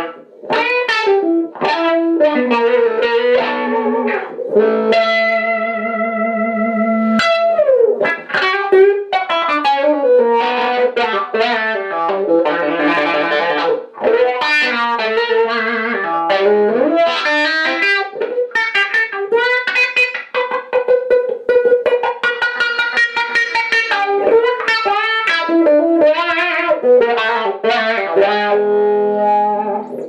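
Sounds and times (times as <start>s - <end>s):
electric guitar with wah pedal: 0.0s - 30.0s.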